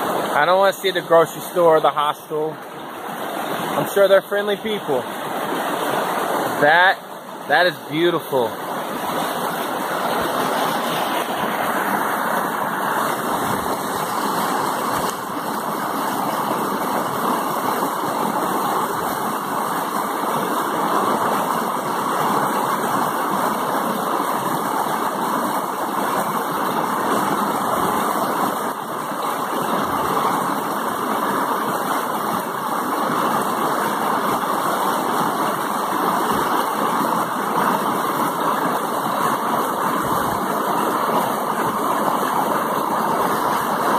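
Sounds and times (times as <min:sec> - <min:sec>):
creek water rushing over rocks: 0:00.0 - 0:43.9.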